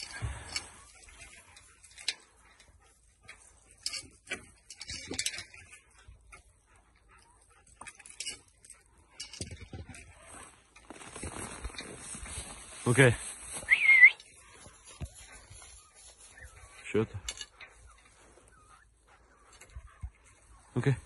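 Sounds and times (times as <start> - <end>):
faint farmyard animal sounds: 0.0 - 21.0
rustles and clicks: 0.0 - 21.0.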